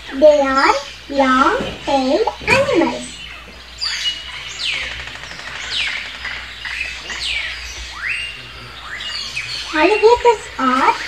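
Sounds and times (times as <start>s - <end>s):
bird whistling calls: 0.0s - 11.0s.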